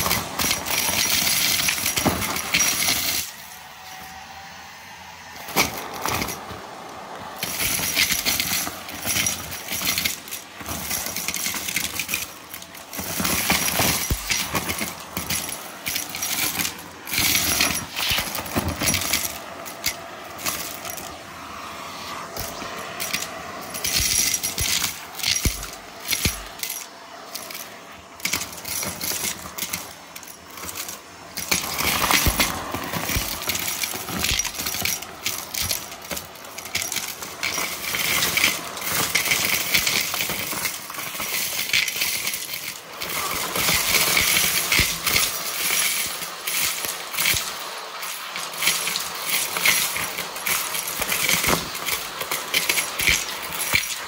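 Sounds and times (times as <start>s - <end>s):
small hard objects clattering: 0.0s - 4.2s, 5.2s - 21.3s, 21.9s - 54.0s
hissing noise: 0.0s - 54.0s.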